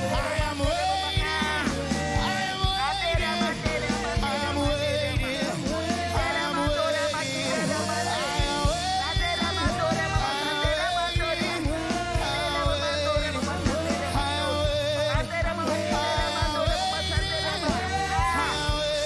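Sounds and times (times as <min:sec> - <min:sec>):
person singing: 0:00.0 - 0:19.0
worship band playing: 0:00.0 - 0:19.0.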